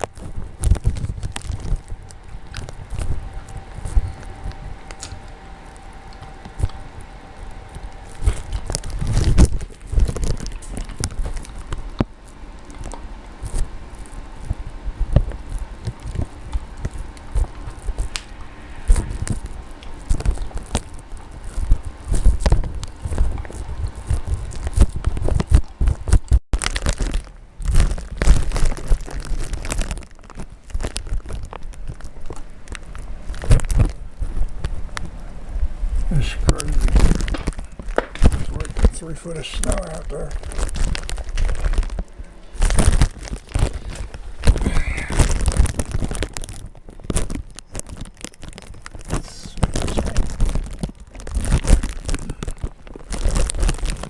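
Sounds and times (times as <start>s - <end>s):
footsteps crunching in snow: 0.0s - 54.0s
wind rumble on microphone: 0.0s - 54.0s.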